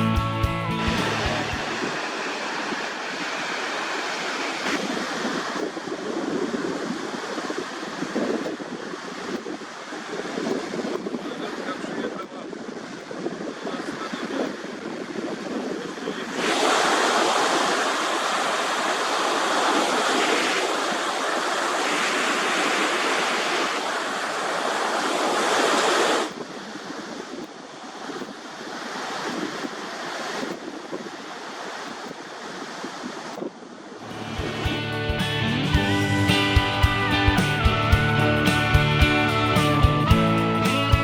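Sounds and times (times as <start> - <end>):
surf washing ashore: 0.0 - 41.0
wind buffeting microphone: 1.0 - 40.3.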